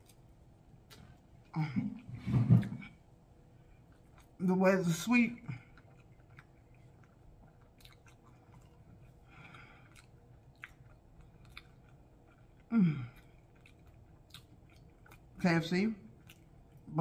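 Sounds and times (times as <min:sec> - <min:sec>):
person chewing food: 0:00.0 - 0:04.4, 0:05.4 - 0:17.0.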